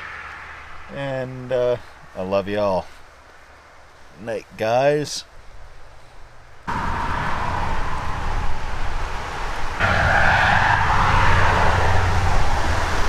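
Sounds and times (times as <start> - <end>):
highway traffic: 0.0 - 13.0.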